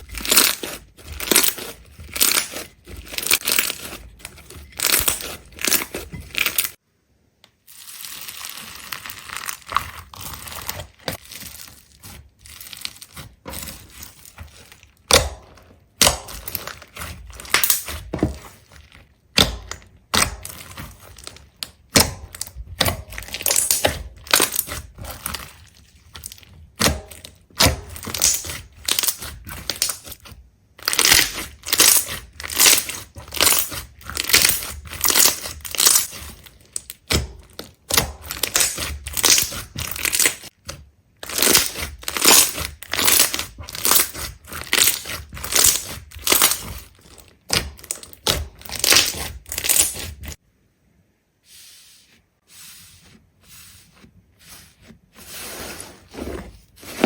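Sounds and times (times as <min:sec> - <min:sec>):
brittle crunching and crackling: 0:00.0 - 0:06.8, 0:07.6 - 0:50.4.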